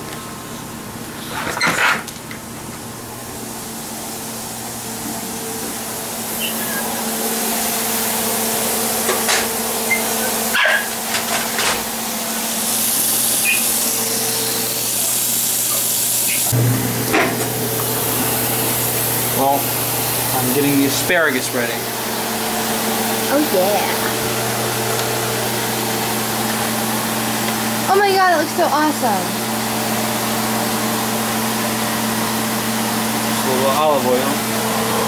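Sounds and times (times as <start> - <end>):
steady kitchen hum: 0.0 - 35.0.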